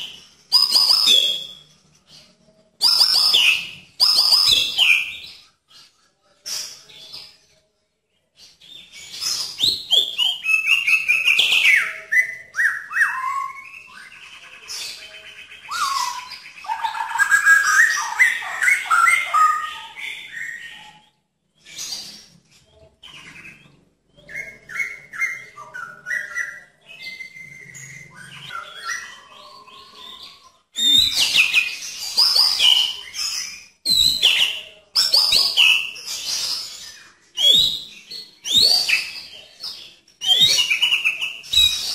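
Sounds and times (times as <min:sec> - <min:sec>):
songbird singing: 0:00.0 - 0:05.9, 0:06.6 - 0:41.9.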